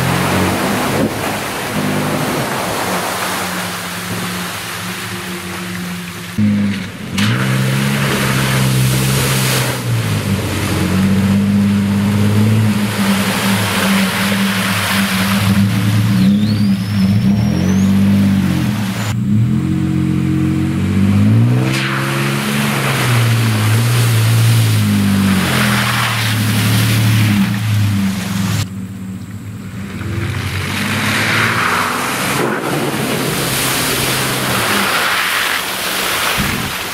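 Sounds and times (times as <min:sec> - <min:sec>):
water splashing against truck: 0:00.0 - 0:19.2, 0:20.6 - 0:28.8, 0:29.6 - 0:36.9
truck engine revving: 0:00.0 - 0:36.9.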